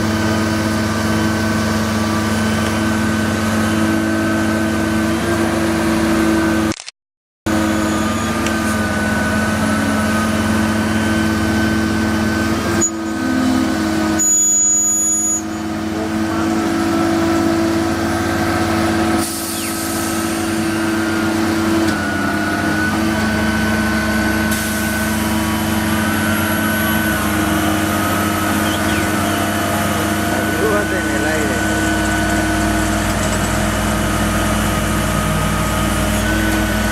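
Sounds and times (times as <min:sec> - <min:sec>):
heavy vehicle engine running: 0:00.0 - 0:06.8, 0:07.5 - 0:36.9.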